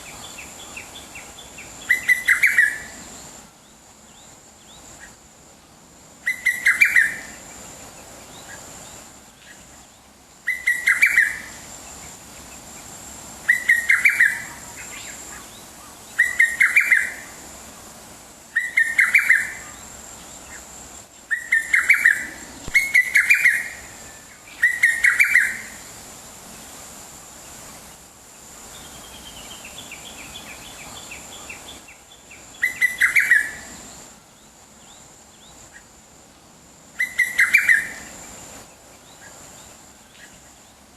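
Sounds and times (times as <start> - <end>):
fainter higher birdsong: 0.0 - 17.8, 18.5 - 25.9, 28.6 - 35.9, 37.0 - 40.9
bird singing: 0.0 - 17.9, 18.5 - 26.7, 28.6 - 36.0, 36.9 - 40.9.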